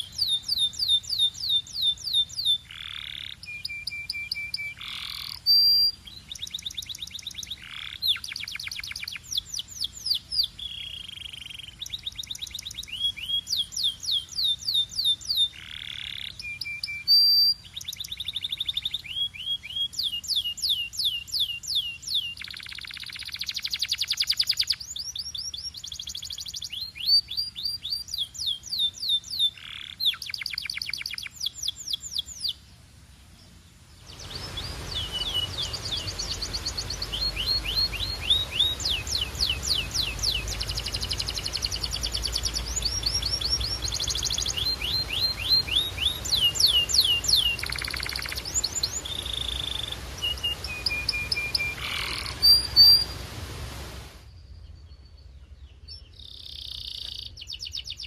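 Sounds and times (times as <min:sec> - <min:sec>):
canary singing trills: 0:00.0 - 0:32.6, 0:34.0 - 0:53.2
background hiss: 0:00.0 - 0:58.0.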